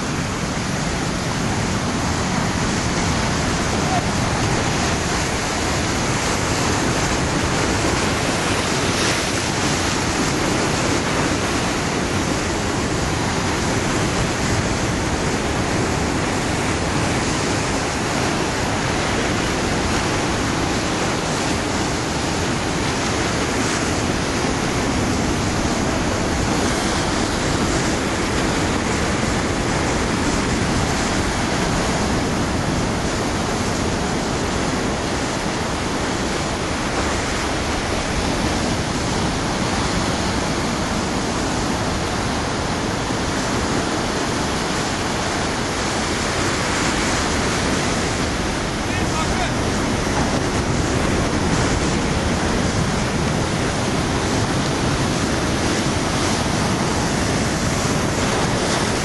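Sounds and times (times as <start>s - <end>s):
surf washing over rocks: 0.0s - 59.0s.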